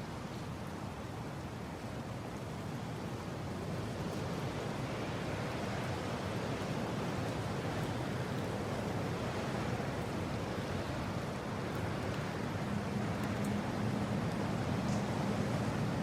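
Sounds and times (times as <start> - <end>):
steady rushing wind: 0.1 - 16.0.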